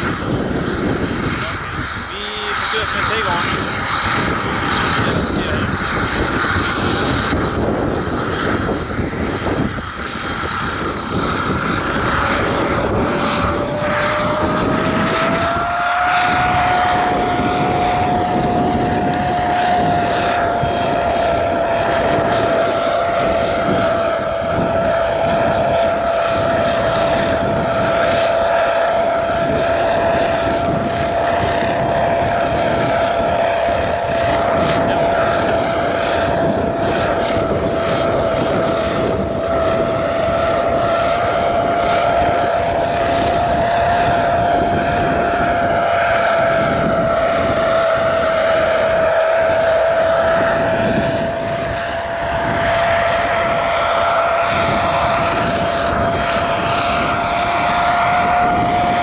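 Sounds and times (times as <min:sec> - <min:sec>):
drone motors whining hum: 0:00.0 - 0:59.0
rushing noise: 0:00.0 - 0:59.0.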